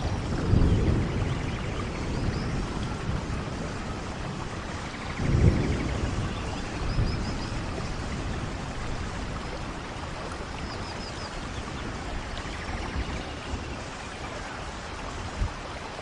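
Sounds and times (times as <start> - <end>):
low rumble of thunder: 0.0 - 16.0
steady rain falling: 0.0 - 16.0.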